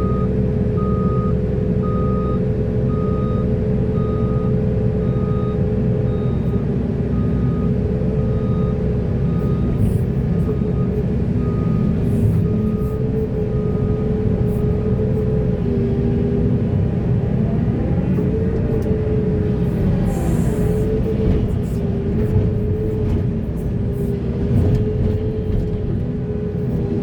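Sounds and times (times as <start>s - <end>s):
diesel machinery engine rumble: 0.0s - 27.0s.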